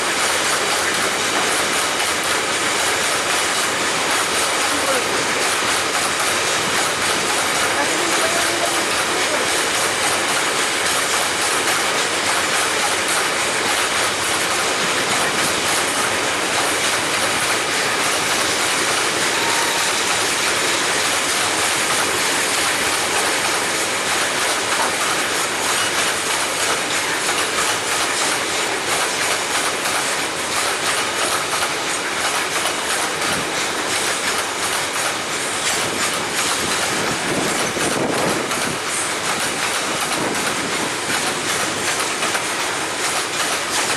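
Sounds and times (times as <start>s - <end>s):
train wheels rushing on rails: 0.0s - 43.9s.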